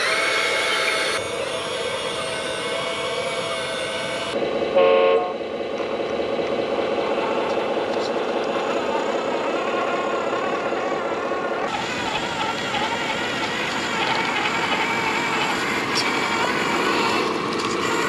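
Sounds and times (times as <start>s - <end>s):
small electric motors whining: 0.0s - 4.4s, 7.1s - 18.0s
toy truck motor and gears: 0.0s - 4.4s, 5.8s - 18.0s.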